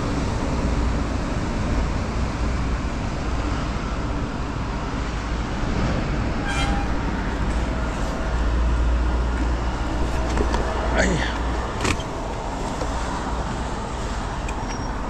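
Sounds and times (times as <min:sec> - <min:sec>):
traffic rumble on wet road: 0:00.0 - 0:15.0.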